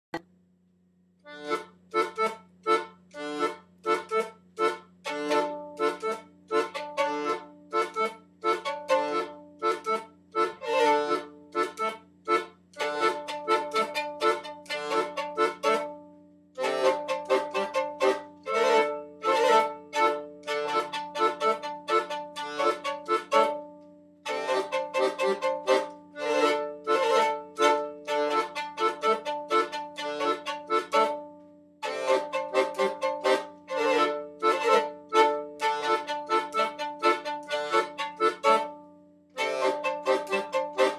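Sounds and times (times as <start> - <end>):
folk music with struck notes: 1.3 - 40.9.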